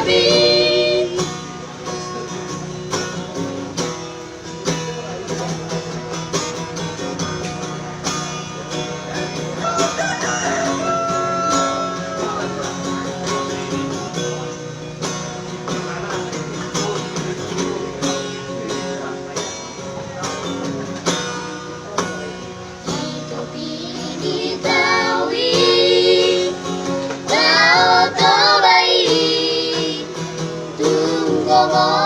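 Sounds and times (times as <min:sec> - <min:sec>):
plucked guitar: 0:00.0 - 0:32.0.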